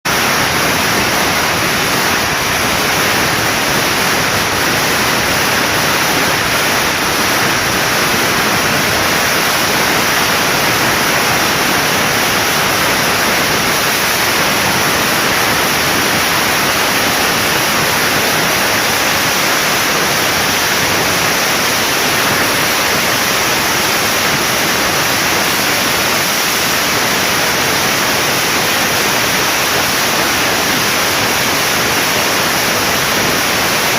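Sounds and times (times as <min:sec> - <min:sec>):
firecrackers crackling: 0:00.1 - 0:33.9.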